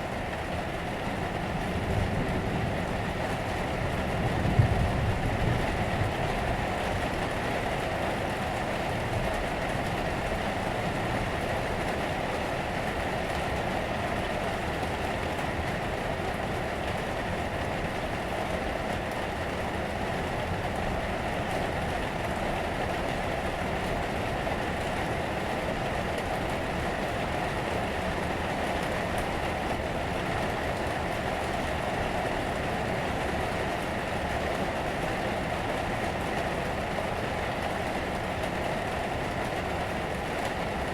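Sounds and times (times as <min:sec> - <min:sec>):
rain on a roof: 0:00.0 - 0:40.9.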